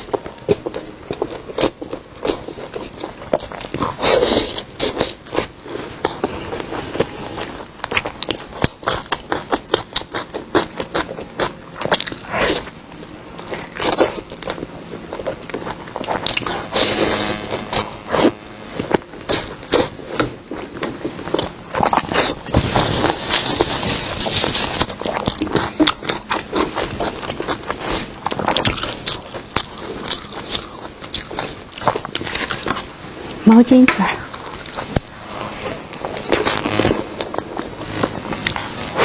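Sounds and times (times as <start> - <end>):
close chewing of ribs: 0.0 - 33.4, 34.2 - 35.2.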